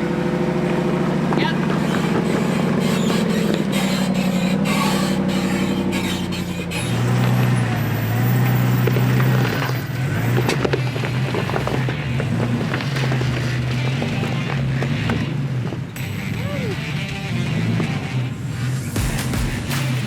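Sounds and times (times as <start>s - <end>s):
off-road vehicle engine: 0.0s - 20.0s
clicks: 1.6s - 20.0s.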